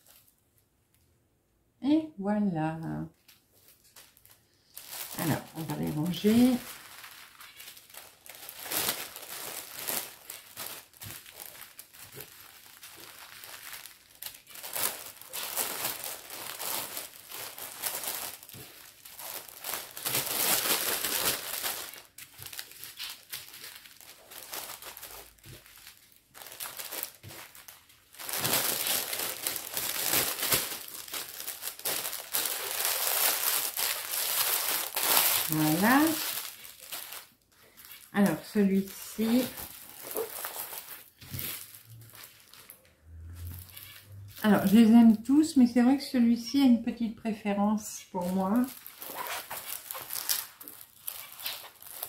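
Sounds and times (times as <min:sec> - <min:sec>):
packaging crinkling and rustling: 0:00.0 - 0:00.6, 0:03.2 - 0:44.9, 0:48.2 - 0:52.0.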